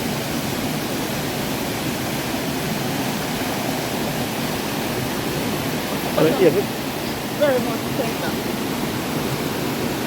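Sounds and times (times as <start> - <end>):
river waterfall rushing: 0.0 - 10.0.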